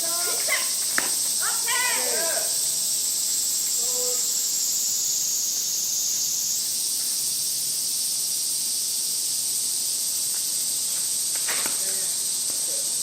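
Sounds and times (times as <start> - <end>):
shrill insect chorus: 0.0 - 13.0.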